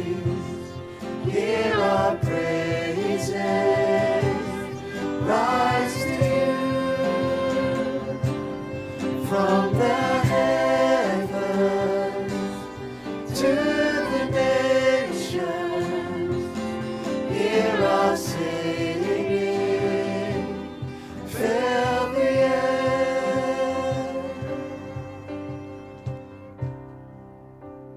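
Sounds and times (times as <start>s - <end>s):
voices singing worship song: 0.0s - 26.4s
instrumental accompaniment: 0.0s - 27.9s.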